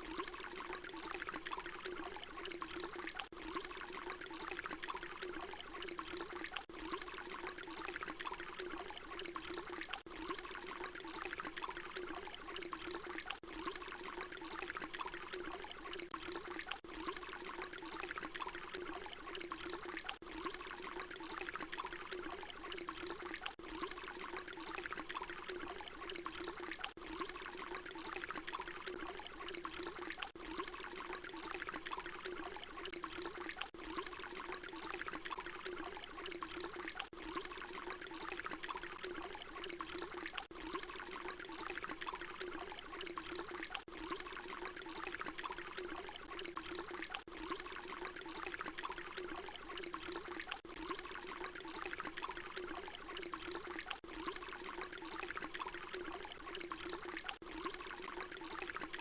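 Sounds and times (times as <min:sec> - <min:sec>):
water pouring: 0:00.0 - 0:59.0.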